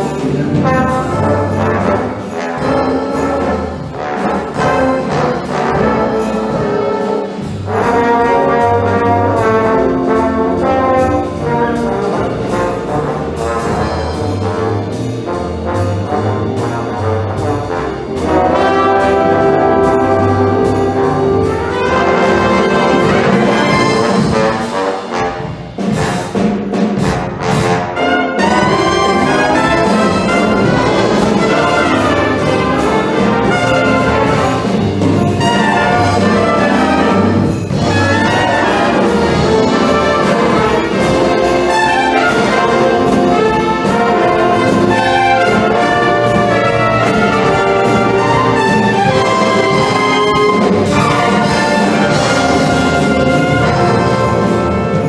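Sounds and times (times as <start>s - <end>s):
brass wind band playing: 0.0s - 55.0s
sharp percussion hits: 0.0s - 55.0s.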